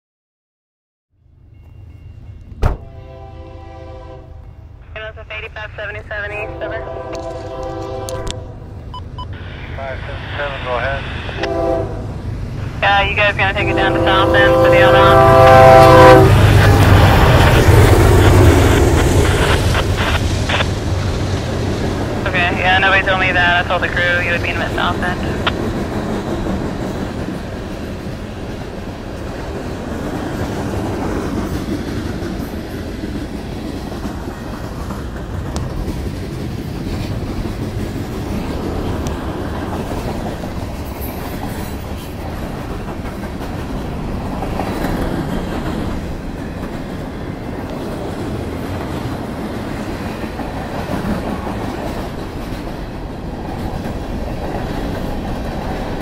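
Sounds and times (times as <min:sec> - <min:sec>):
freight train wheels rolling on rails: 0:06.4 - 0:56.0.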